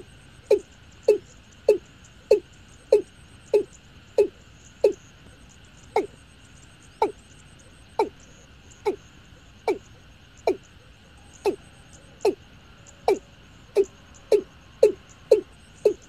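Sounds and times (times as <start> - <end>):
faint high-pitched drone: 0.0 - 16.0.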